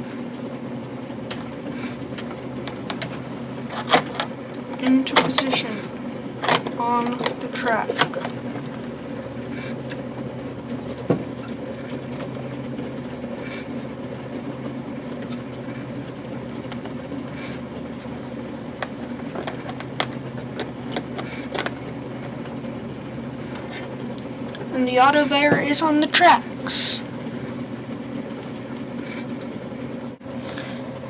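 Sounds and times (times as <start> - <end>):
toy train humming: 0.0 - 31.0.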